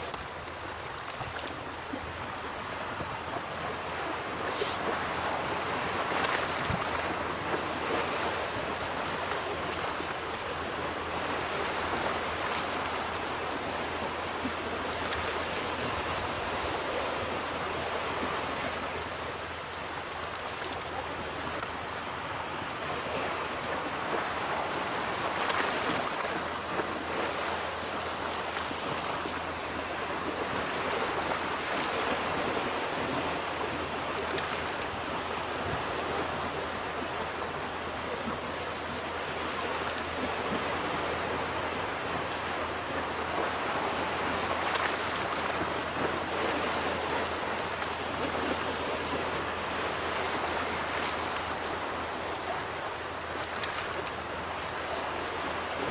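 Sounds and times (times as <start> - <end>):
ocean waves breaking on beach: 0.3 - 55.9.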